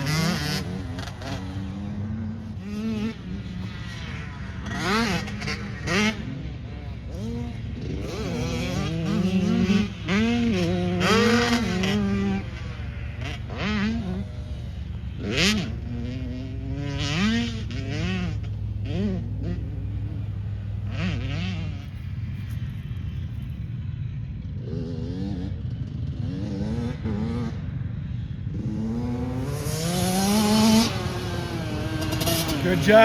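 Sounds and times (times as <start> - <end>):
engine revving: 0.0 - 23.6, 24.4 - 33.0.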